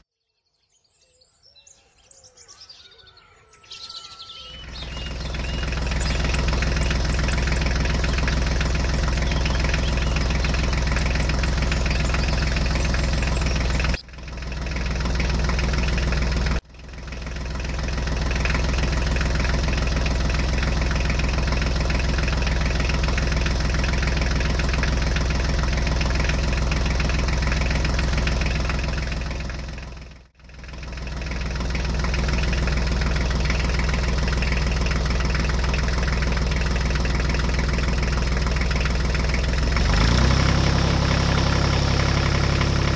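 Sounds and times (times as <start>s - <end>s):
tractor engine idling: 3.8s - 42.9s.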